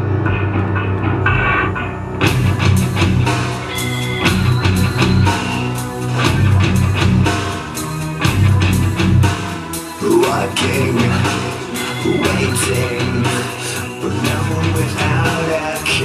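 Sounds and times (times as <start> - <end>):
rock music through speakers: 0.0 - 16.0.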